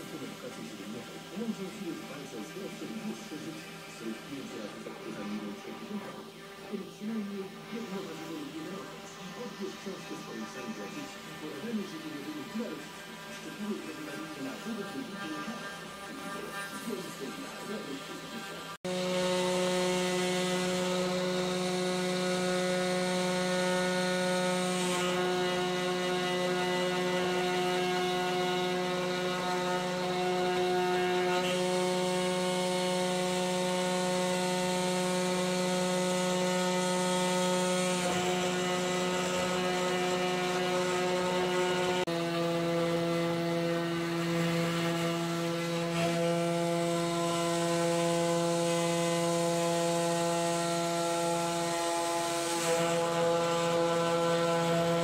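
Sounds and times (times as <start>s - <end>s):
router spindle cutting wood: 0.0s - 55.0s.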